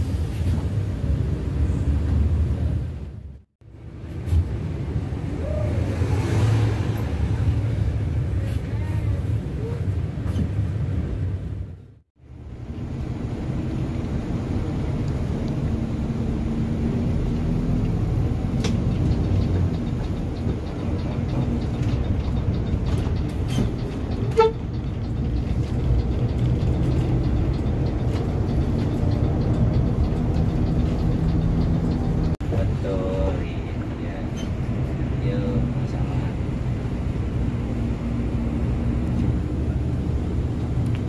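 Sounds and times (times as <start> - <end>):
coach engine and road rumble: 0.0 - 41.0.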